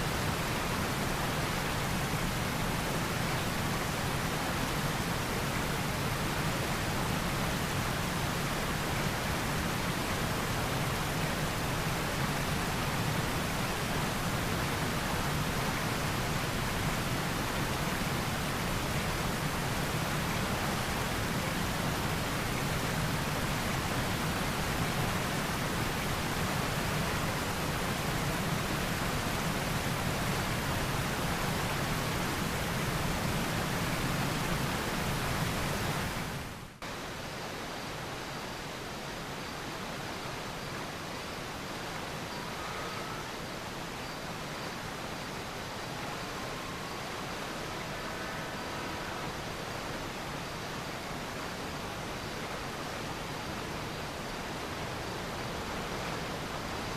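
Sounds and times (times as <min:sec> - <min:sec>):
steady broadband hiss: 0:00.0 - 0:56.9.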